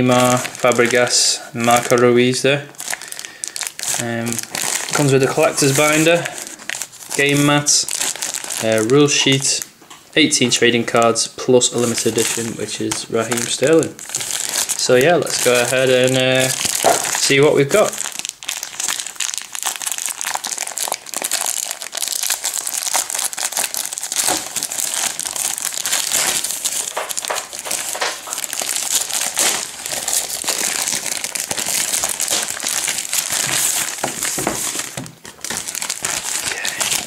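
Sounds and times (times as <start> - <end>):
plastic packaging crinkling: 0.0 - 37.0.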